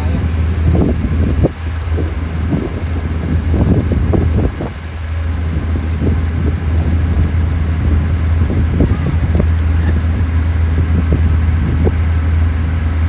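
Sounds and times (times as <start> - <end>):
low engine drone: 0.0 - 13.0
wind buffeting microphone: 0.0 - 13.0.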